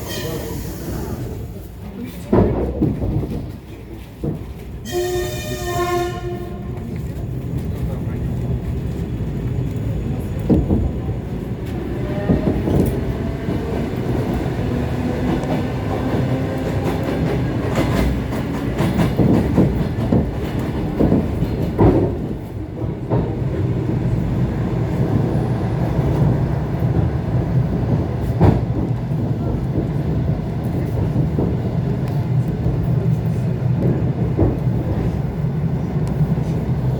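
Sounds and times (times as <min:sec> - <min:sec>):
electric train rumbling: 0:00.0 - 0:36.9.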